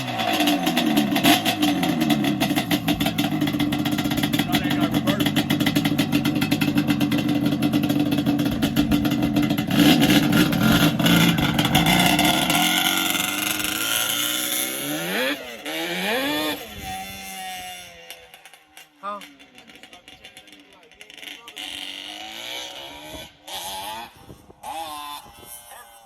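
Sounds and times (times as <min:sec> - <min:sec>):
quad engine revving: 0:00.0 - 0:26.0.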